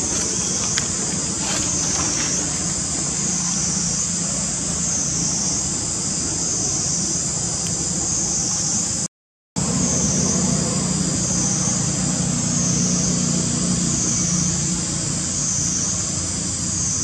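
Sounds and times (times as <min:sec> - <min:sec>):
insect chorus high buzzing: 0:00.0 - 0:17.0.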